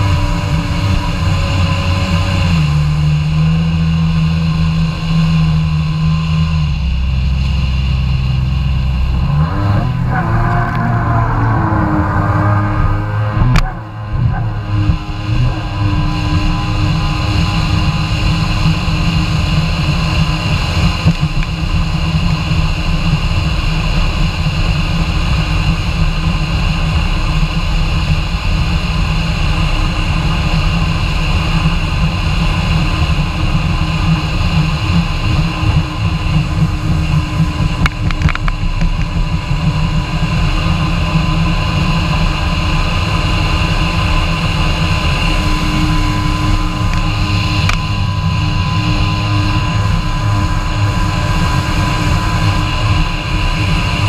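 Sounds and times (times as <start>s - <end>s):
jet ski engine running: 0.0s - 54.0s.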